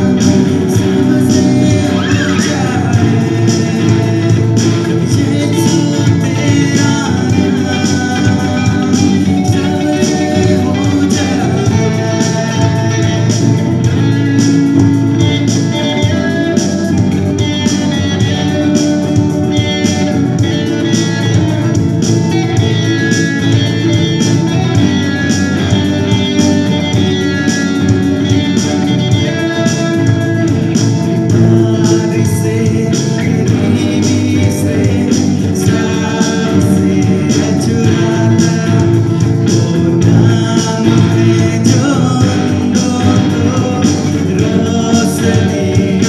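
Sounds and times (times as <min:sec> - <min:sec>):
electric and acoustic guitars: 0:00.0 - 0:46.0
man singing: 0:00.0 - 0:46.0.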